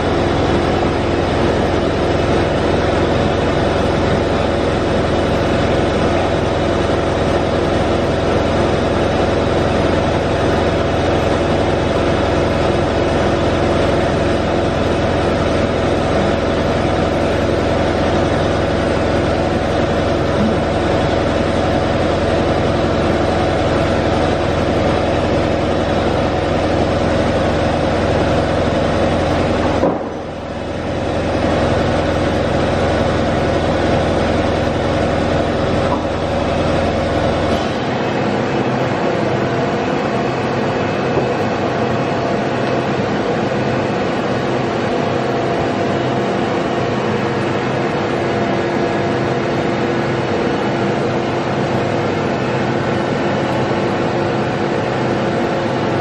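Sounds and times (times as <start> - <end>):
boring mill humming: 0.0 - 56.0.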